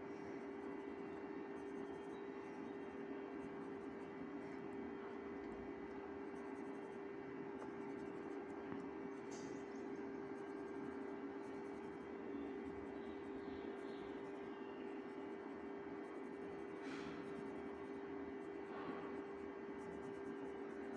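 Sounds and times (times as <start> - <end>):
steady low hum: 0.0 - 20.9
pencil scratching on paper: 1.5 - 5.1, 5.8 - 20.9.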